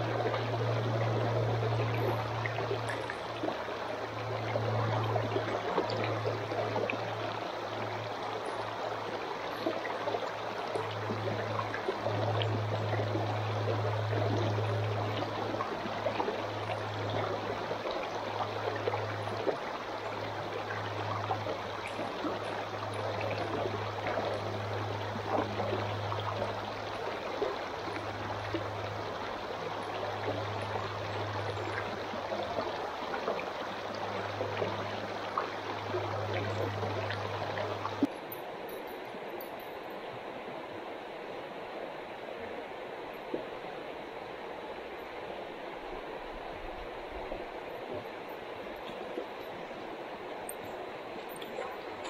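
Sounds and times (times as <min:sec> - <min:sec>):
low hum: 0:00.0 - 0:52.0
stream rushing over rocks: 0:00.0 - 0:52.0.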